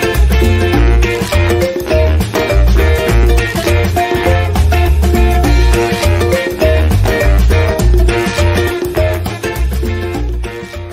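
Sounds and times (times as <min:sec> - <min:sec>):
upbeat instrumental music: 0:00.0 - 0:10.9.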